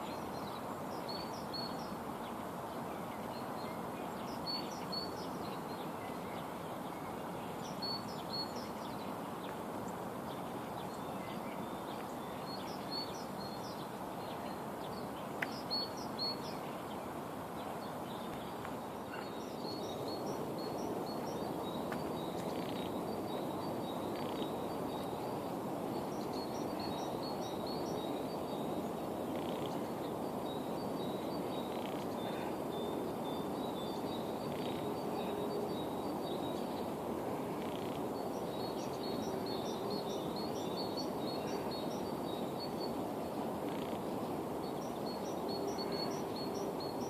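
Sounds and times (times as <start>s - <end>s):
steady background noise: 0.0s - 47.0s
birds chirping: 7.5s - 47.0s.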